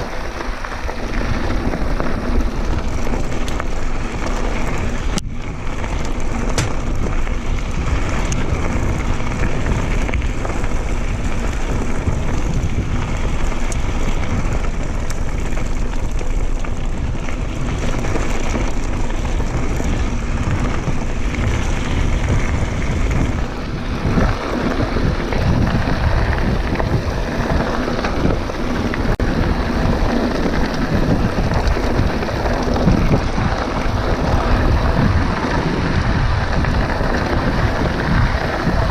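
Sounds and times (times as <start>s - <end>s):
bike tyres rolling on dirt: 0.0s - 38.9s
wind rumbling on microphone: 0.0s - 38.9s.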